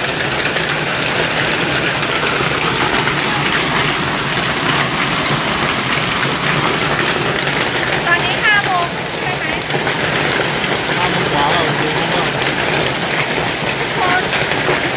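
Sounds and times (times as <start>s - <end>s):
heavy rain falling: 0.0s - 14.9s.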